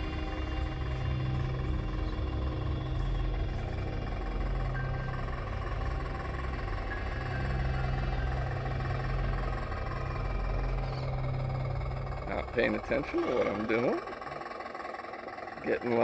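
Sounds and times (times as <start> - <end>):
electric motor humming with whine: 0.0 - 16.0.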